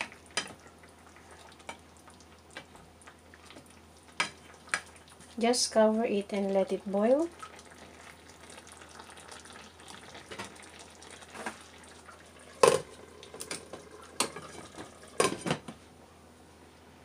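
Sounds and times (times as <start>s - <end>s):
sauce bubbling in a frying pan: 0.0s - 15.6s.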